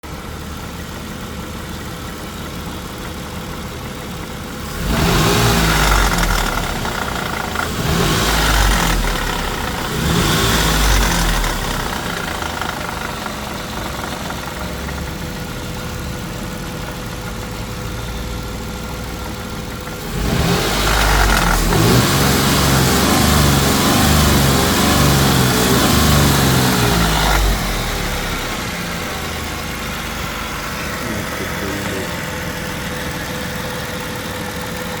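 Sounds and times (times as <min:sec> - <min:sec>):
car engine idling and revving: 0:00.0 - 0:35.0
exhaust knocking and rattling: 0:00.1 - 0:35.0.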